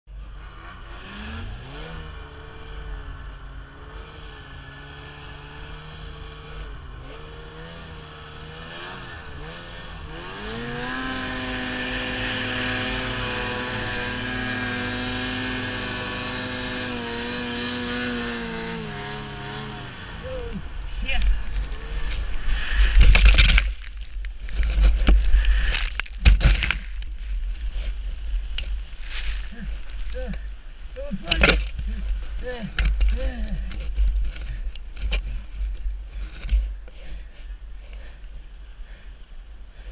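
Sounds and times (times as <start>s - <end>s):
snowmobile engine revving: 0.1s - 34.6s.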